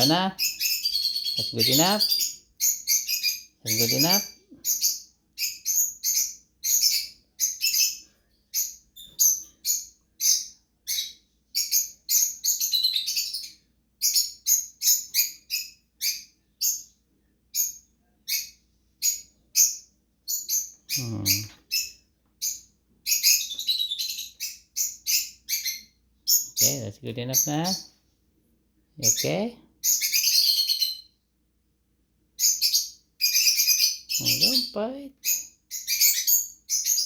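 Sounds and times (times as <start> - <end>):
cockatiels chirping: 0.0 - 17.0, 17.6 - 27.9, 29.0 - 31.2, 32.4 - 37.0.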